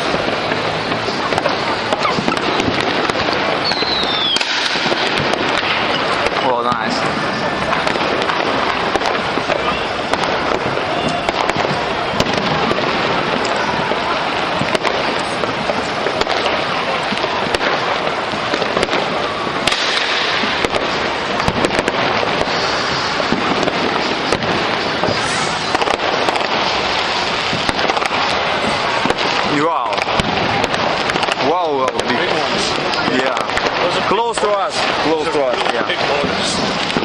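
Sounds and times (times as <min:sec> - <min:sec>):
fireworks bangs and crackles: 0:00.0 - 0:37.0
sharp firework pops: 0:00.0 - 0:37.0.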